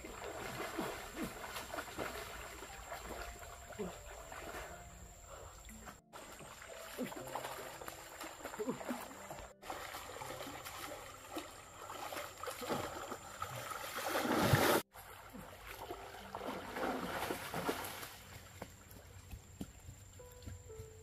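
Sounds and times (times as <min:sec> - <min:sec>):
water splashing and churning: 0:00.0 - 0:19.0.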